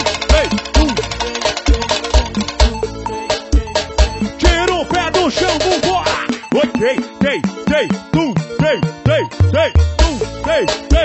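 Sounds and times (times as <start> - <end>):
live band dance groove: 0.0 - 11.0.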